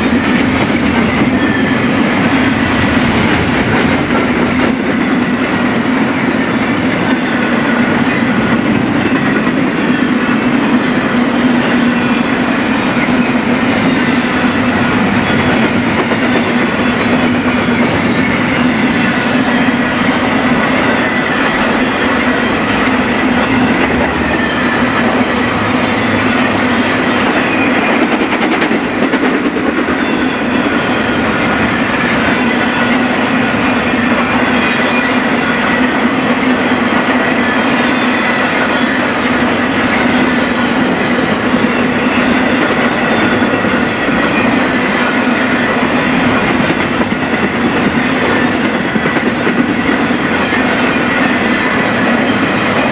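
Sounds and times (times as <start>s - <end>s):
clickety-clack over rails: 0.0s - 52.9s
train wheels rumbling: 0.0s - 52.9s.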